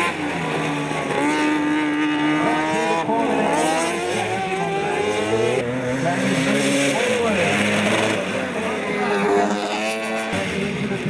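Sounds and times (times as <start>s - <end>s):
lawnmower engines revving: 0.0s - 11.0s.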